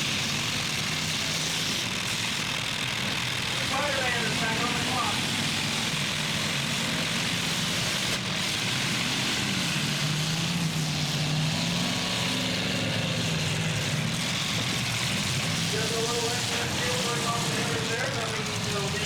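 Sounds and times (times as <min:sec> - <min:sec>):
truck engines droning: 0:00.0 - 0:19.0
engine revving up: 0:03.0 - 0:19.0.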